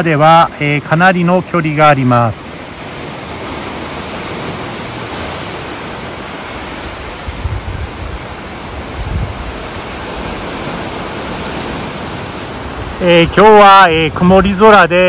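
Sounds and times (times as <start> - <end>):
sea surf breaking on cliffs: 0.0 - 15.0
wind: 0.0 - 15.0
wind gusts buffeting microphone: 0.0 - 15.0.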